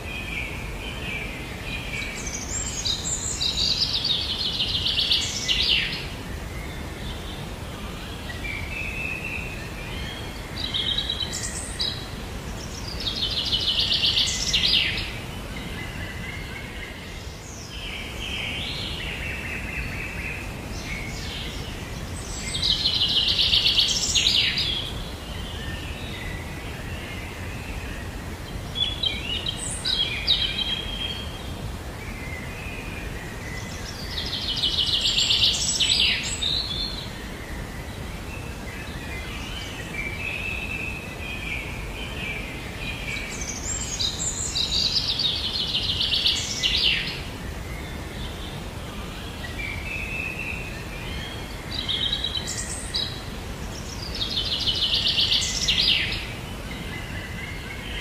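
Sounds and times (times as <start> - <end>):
low background noise: 0.0 - 58.0
songbirds chirping and trilling: 0.0 - 58.0.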